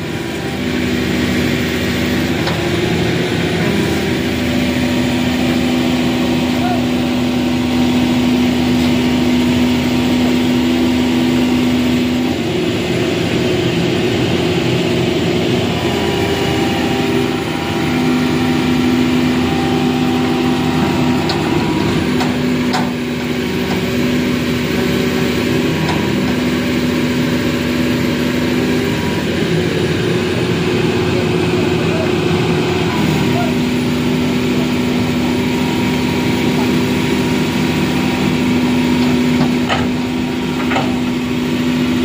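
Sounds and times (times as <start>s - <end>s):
excavator diesel engine under load: 0.0s - 42.0s.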